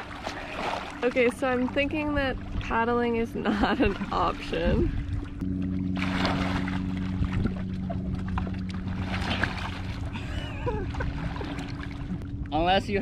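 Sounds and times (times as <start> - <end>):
steady low hum: 0.0 - 13.0
water sloshing around kayak: 0.0 - 13.0.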